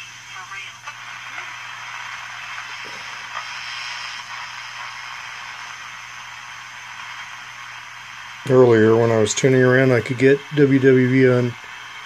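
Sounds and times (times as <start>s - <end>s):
low steady hum: 0.0s - 12.0s
shortwave radio static: 0.0s - 12.0s.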